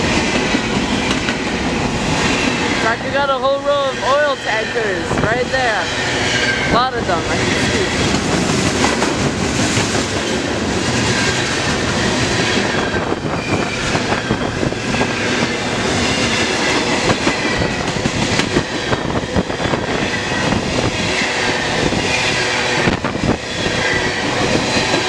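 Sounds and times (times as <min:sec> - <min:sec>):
train wheels clacking over rail joints: 0:00.0 - 0:03.6, 0:07.6 - 0:25.0
freight train rumbling past: 0:00.0 - 0:25.0.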